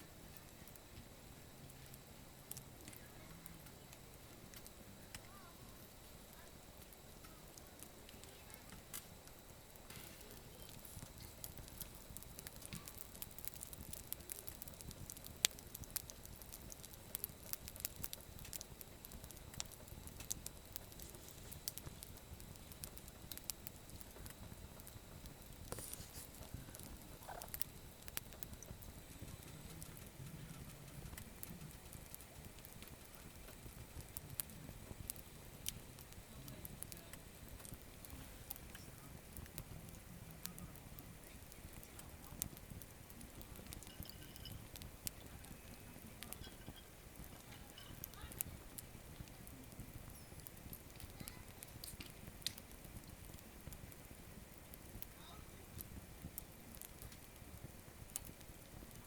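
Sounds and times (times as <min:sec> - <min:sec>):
campfire crackling and popping: 0:00.0 - 0:59.0
faint fire hiss: 0:00.0 - 0:59.0.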